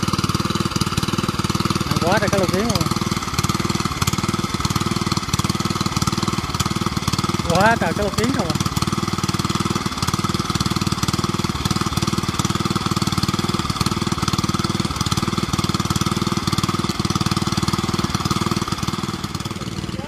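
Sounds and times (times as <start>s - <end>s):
water pump engine running: 0.0s - 20.0s.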